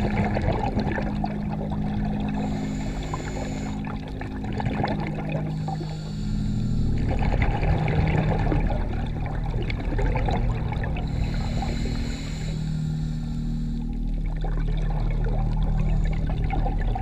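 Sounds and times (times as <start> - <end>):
ambient droning chords: 0.0 - 17.0
underwater crackling and bubbling: 0.0 - 17.0.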